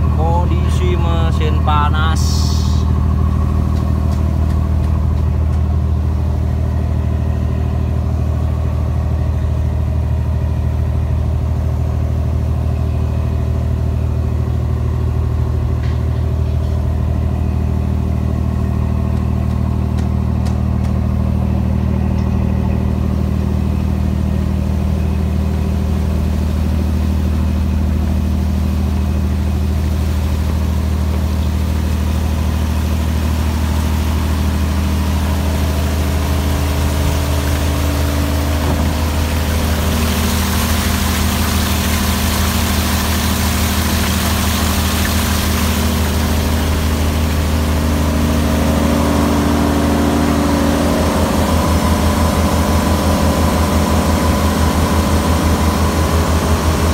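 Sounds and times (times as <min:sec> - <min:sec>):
boat diesel engine droning: 0:00.0 - 0:56.9.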